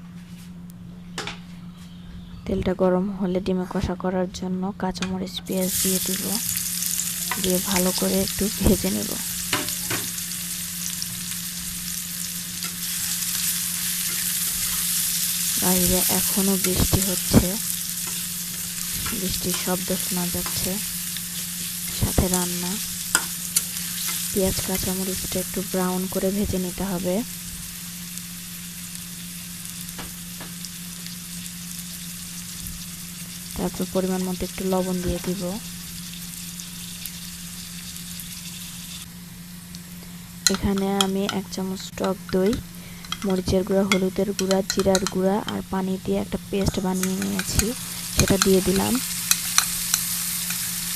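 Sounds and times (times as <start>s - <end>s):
low hum: 0.0s - 50.9s
onion sizzling in hot oil: 5.5s - 50.9s.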